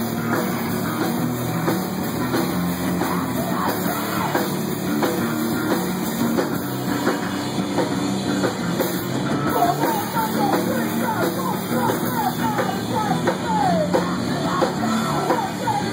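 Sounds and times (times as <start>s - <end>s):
rock band playing: 0.0s - 15.9s.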